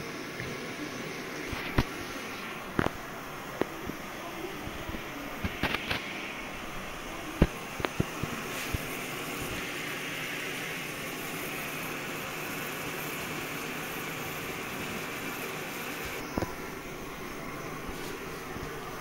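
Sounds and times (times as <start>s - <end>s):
camping stove burner hiss: 0.0s - 19.0s
food sizzling in a pot: 0.0s - 19.0s.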